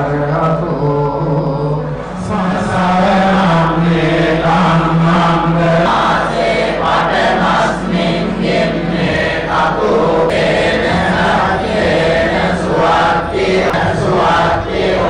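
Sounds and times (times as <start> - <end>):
monks chanting in unison: 0.0 - 15.0.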